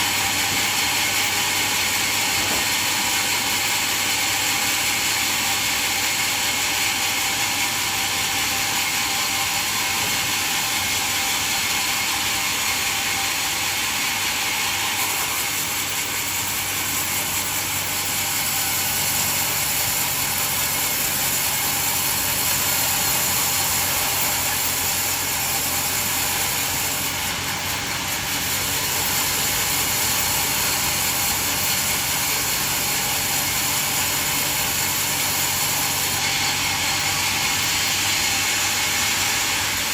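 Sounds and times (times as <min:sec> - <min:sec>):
band sawmill sawing log: 0:00.0 - 0:39.9.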